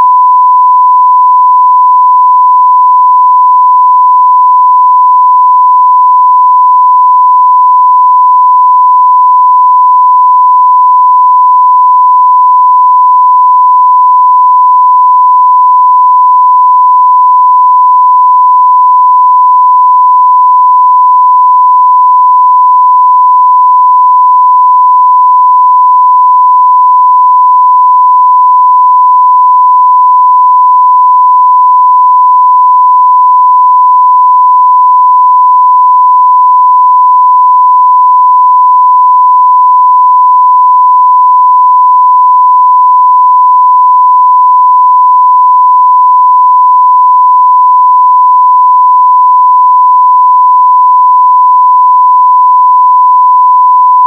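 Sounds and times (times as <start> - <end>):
sine wave test tone: 0.0 - 54.0.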